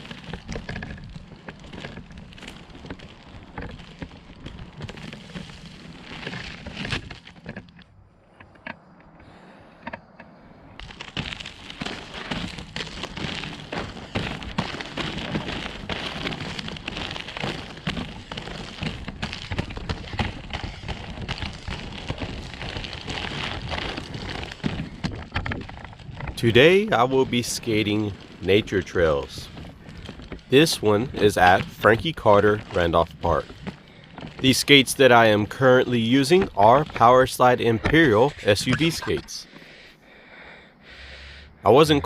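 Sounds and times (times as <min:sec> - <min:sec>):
skate wheels rolling on dirt: 0:00.0 - 0:42.0.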